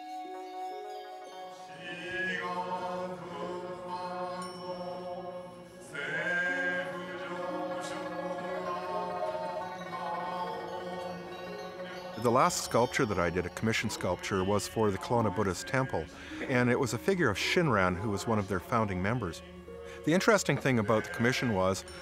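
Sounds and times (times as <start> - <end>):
voices chanting: 1.6 - 22.0.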